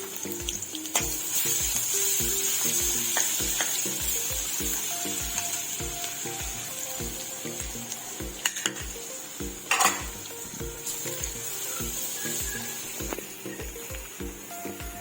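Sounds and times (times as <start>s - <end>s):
background music with beat: 0.0s - 15.0s
food sizzling in hot oil: 0.0s - 15.0s.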